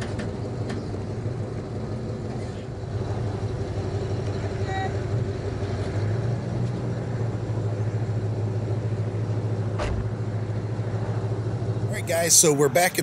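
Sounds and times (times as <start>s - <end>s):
pickup truck engine idling: 0.0s - 13.0s.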